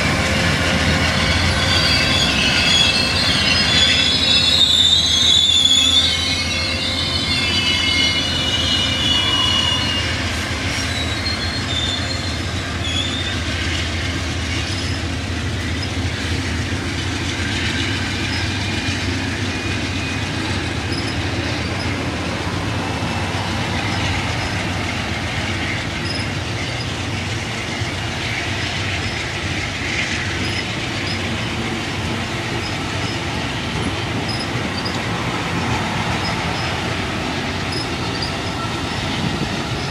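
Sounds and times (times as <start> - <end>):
high wheel squeal: 0.0 - 39.9
train wheels rumbling on rails: 0.0 - 39.9.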